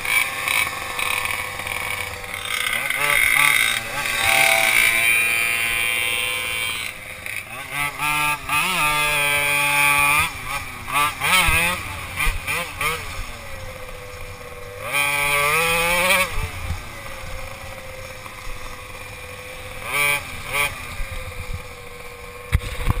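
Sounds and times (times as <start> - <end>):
small petrol engine revving: 0.0 - 23.0.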